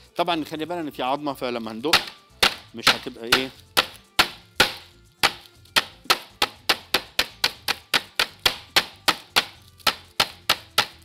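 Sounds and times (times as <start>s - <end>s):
knife slapping meat on board: 1.9s - 11.0s.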